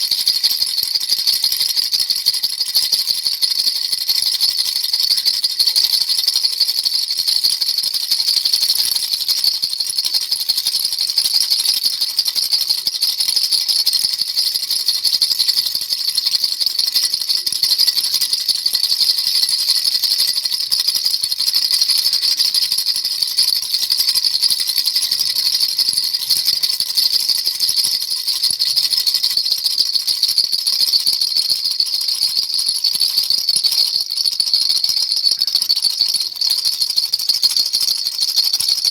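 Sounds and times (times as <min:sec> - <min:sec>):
baby rattle shaken fast: 0:00.0 - 0:38.9.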